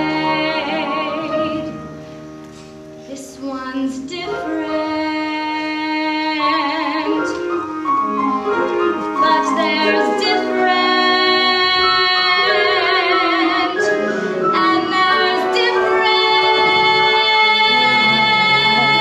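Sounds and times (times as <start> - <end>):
woman singing with vibrato: 0.0 - 1.9, 3.1 - 7.6, 9.1 - 19.0
instrumental accompaniment: 0.0 - 19.0.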